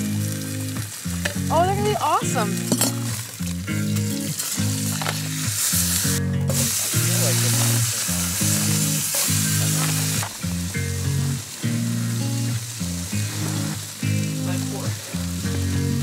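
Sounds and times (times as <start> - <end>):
background music: 0.0 - 16.0
food sizzling in a pan: 0.0 - 16.0.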